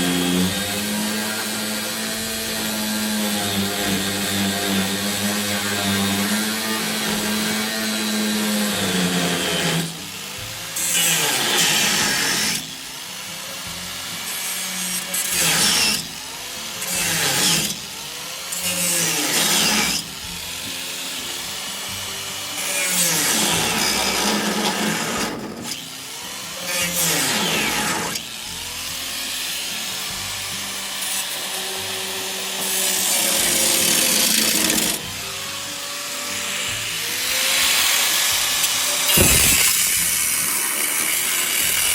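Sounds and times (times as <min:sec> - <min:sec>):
hand tool rasping strokes: 0:00.0 - 0:41.9.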